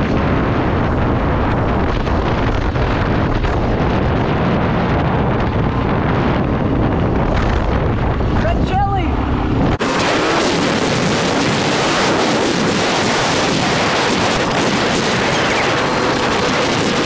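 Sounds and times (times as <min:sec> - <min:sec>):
engine and tyres rumbling: 0:00.0 - 0:17.0
wind rushing over microphone: 0:00.0 - 0:17.0.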